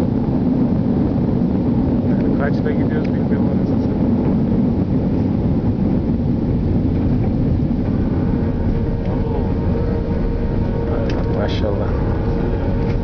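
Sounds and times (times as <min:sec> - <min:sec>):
airliner cabin rumble: 0:00.0 - 0:13.0
faint steady hum: 0:00.0 - 0:13.0.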